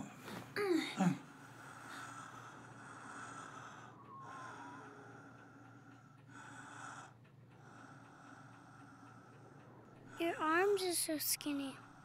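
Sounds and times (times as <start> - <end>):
man breathing with rattly breaths: 0.0 - 12.0.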